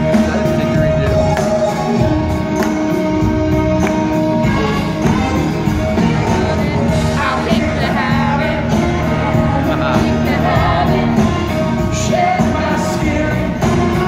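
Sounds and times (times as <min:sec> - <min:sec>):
man singing lead: 0:00.0 - 0:03.1, 0:04.5 - 0:14.0
live rock band playing: 0:00.0 - 0:14.0.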